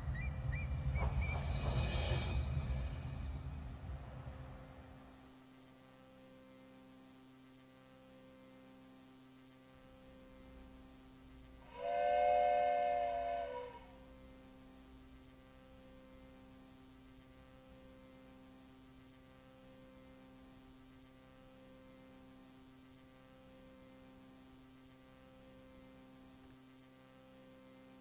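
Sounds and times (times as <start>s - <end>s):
faint electrical hum with hiss: 0.0s - 28.0s.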